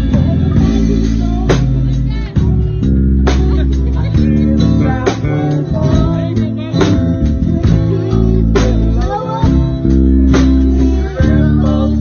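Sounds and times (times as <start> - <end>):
live country band playing: 0.0 - 12.0
person singing: 0.0 - 12.0.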